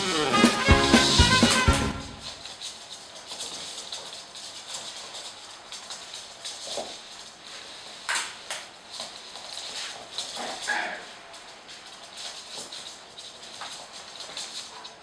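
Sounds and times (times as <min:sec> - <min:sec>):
mop swishing across wooden floor: 0:01.0 - 0:15.0.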